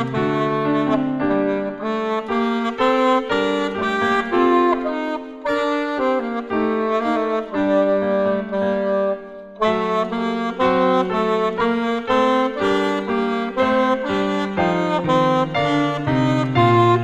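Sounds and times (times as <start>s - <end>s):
saxophone melody: 0.0s - 17.0s.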